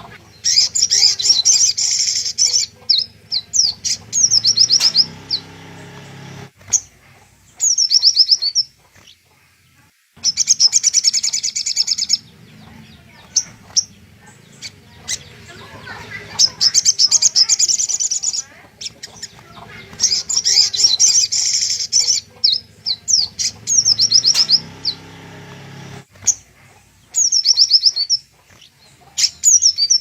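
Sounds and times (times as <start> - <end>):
sunbird trilling and chirping: 0.0 - 9.2, 10.2 - 30.0.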